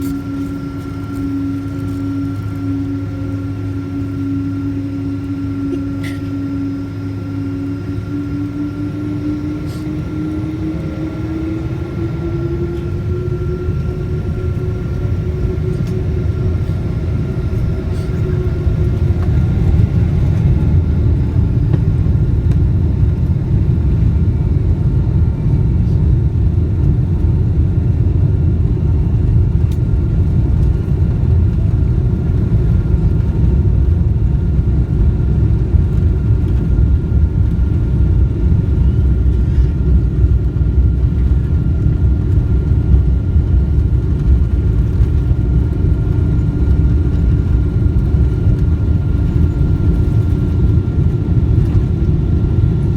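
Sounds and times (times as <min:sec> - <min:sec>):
jet engines rumbling with whine: 0:00.0 - 0:52.9.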